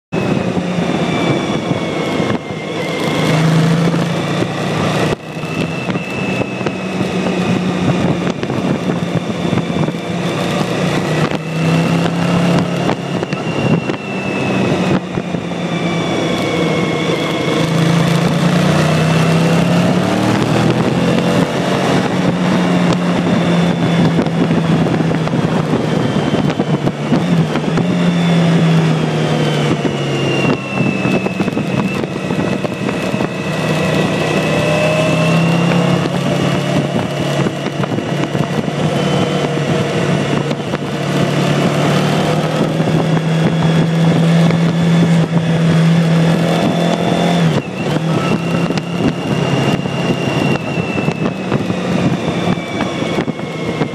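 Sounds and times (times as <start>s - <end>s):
motorcycle engine revving: 0.1s - 53.9s.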